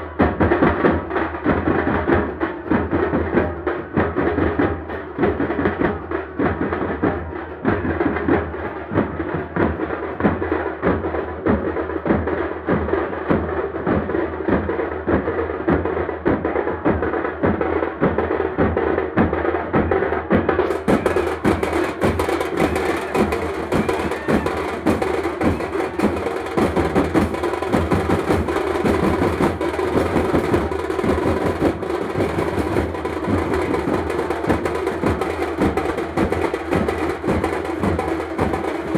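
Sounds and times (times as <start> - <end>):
fast hand-struck drums: 0.0 - 38.9.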